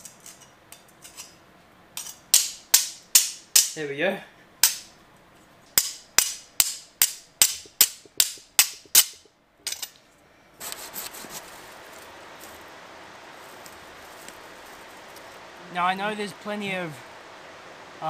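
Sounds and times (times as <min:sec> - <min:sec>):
outdoor noise hiss: 0:00.0 - 0:18.0.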